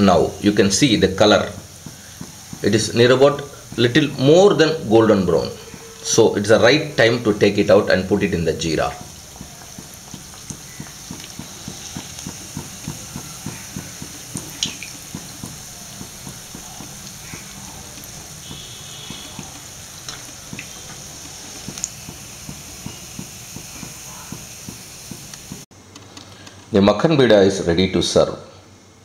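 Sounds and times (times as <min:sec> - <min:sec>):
dumplings sizzling in hot oil: 0:00.0 - 0:25.7.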